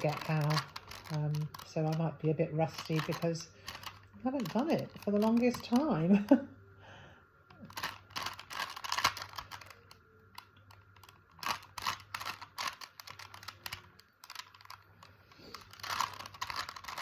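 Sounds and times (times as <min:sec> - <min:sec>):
plastic puzzle cube clicking: 0:00.0 - 0:02.0, 0:02.7 - 0:06.0, 0:07.5 - 0:17.0.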